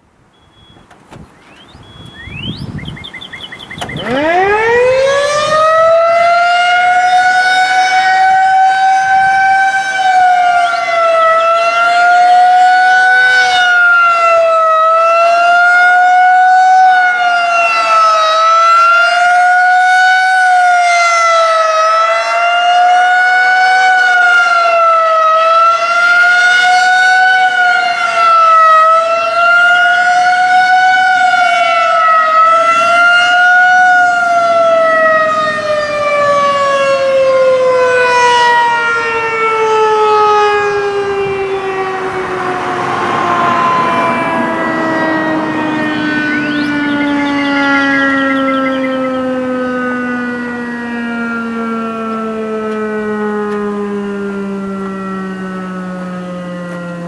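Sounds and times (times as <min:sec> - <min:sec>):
outdoor warning siren wailing: 0:00.0 - 0:57.0.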